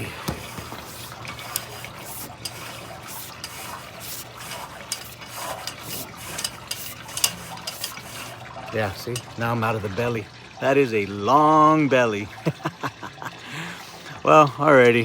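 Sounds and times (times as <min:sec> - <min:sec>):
water gushing through drain: 0:00.0 - 0:14.8.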